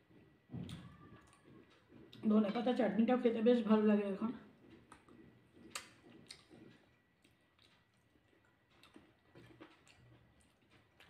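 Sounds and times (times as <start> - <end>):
chewing: 0.0 - 2.8, 4.5 - 11.0.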